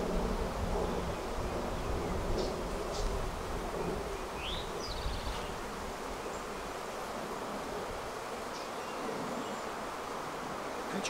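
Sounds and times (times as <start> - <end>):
honeybee colony buzzing: 0.0 - 11.0.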